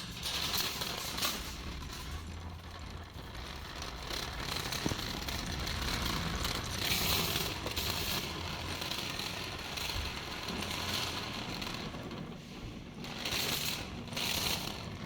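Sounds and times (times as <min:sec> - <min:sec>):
shopping cart rolling and rattling: 0:00.0 - 0:15.0.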